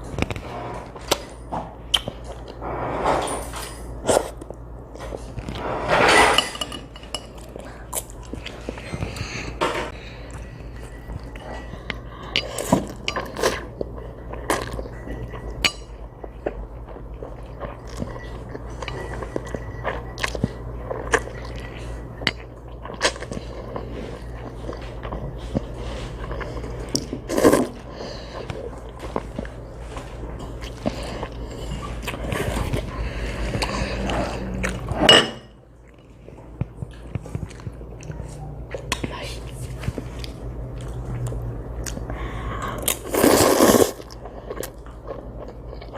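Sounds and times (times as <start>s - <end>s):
steady low hum: 0.0s - 45.9s
person chewing noodles: 7.4s - 35.1s, 35.8s - 45.9s.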